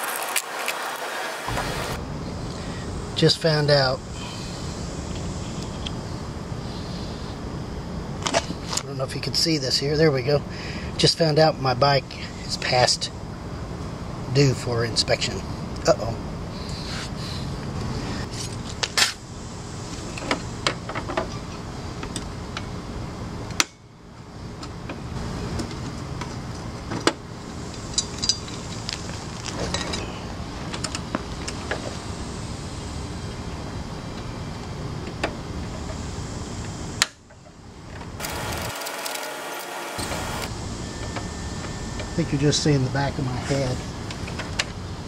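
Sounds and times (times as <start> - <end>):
steady background hum: 0.0 - 45.0.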